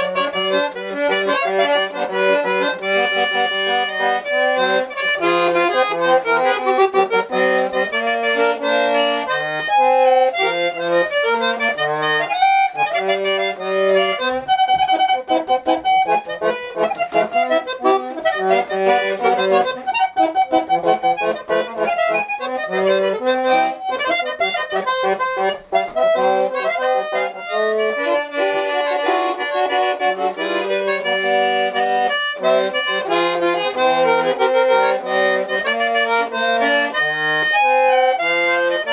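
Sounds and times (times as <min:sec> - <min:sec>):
small button accordion playing: 0:00.0 - 0:38.9.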